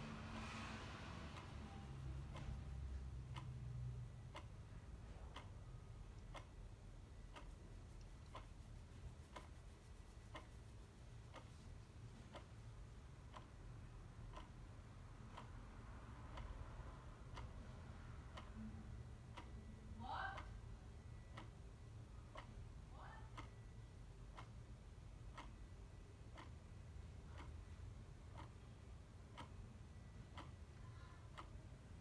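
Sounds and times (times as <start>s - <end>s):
clock ticking faintly: 0.0s - 32.0s
low steady rumble: 0.0s - 32.0s.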